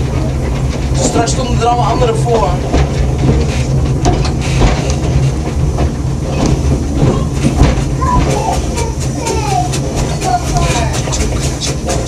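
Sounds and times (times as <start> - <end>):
steam train rumbling: 0.0 - 12.0
wheels clicking on rails: 0.0 - 12.0.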